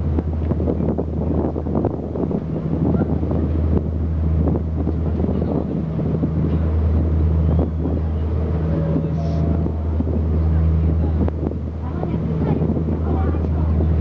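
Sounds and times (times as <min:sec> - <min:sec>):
ship hum: 0:00.0 - 0:14.0
wind buffeting microphone: 0:00.0 - 0:14.0.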